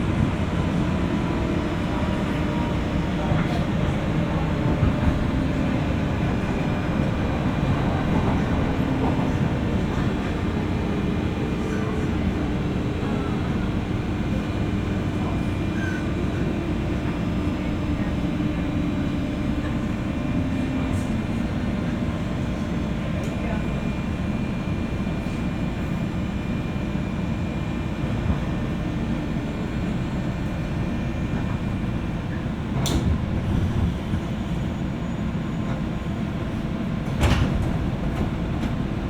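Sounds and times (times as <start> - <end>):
electric train motor rumble: 0.0 - 39.0.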